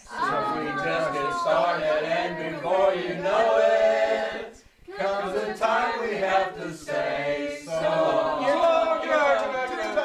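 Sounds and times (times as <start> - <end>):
group singing unaccompanied: 0.0 - 10.0.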